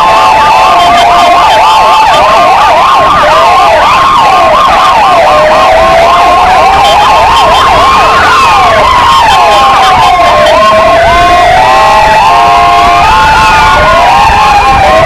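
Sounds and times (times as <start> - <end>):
fast yelping siren: 0.0 - 15.0
wailing siren: 0.0 - 15.0.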